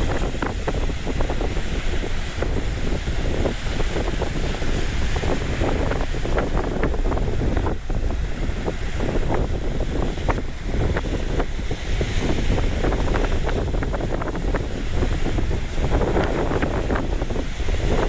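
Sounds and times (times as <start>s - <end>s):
sea waves rushing: 0.0s - 18.0s
wind buffeting the microphone: 0.0s - 18.0s.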